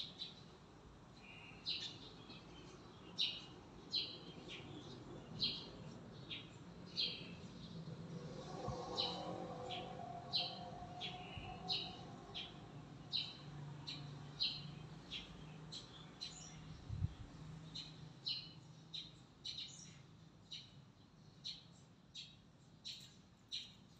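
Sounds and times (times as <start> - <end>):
bird chirping: 1.2 - 23.8.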